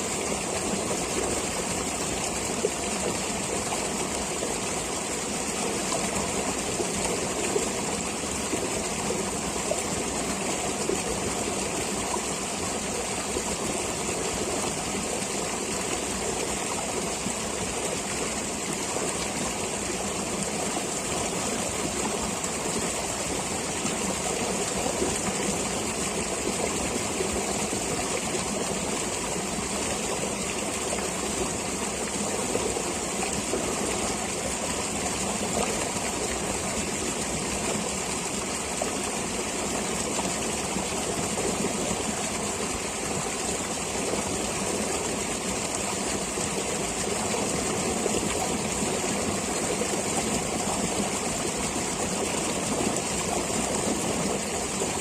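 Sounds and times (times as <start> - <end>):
stream water flowing: 0.0 - 55.0.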